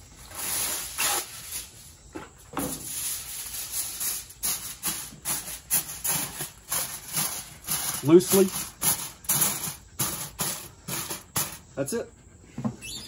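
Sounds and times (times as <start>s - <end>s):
aluminum foil rustling and crinkling: 0.0s - 11.6s.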